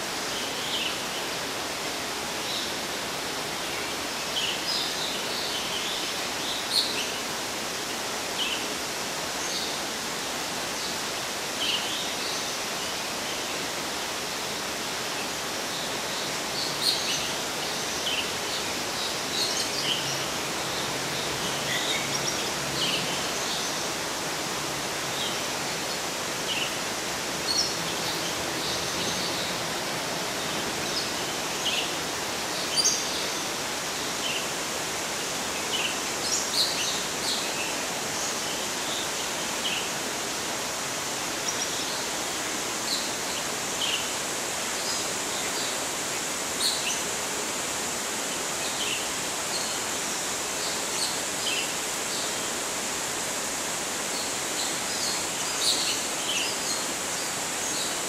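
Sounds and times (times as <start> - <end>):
steady rushing water: 0.0 - 58.0.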